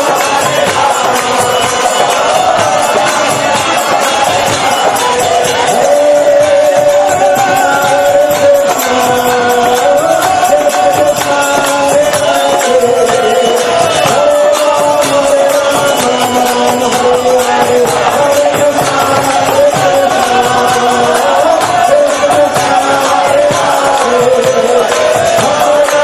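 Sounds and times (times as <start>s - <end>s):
jingling percussion: 0.0s - 26.0s
voices chanting long held lines: 0.0s - 26.0s.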